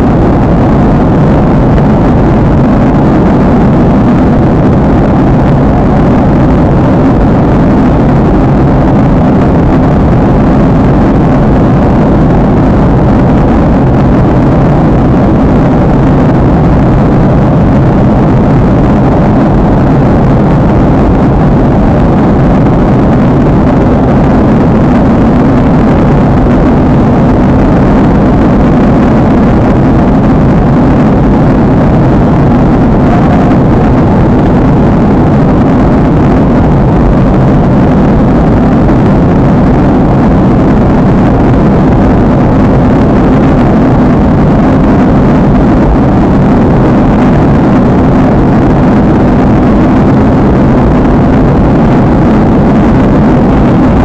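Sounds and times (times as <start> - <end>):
jet airliner cabin noise: 0.0 - 54.0.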